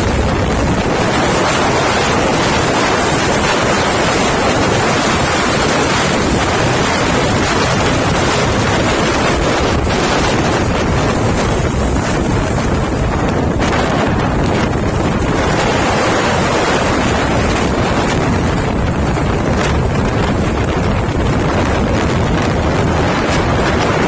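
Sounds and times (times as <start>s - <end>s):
truck rumbling: 0.0s - 24.0s
wind buffeting microphone: 0.0s - 24.0s.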